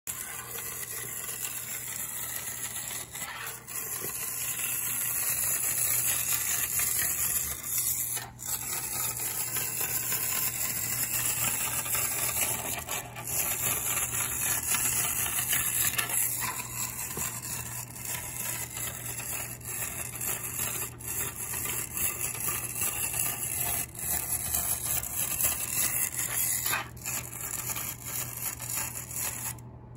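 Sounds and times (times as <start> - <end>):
clockwork motor whirring: 0.0 - 29.6.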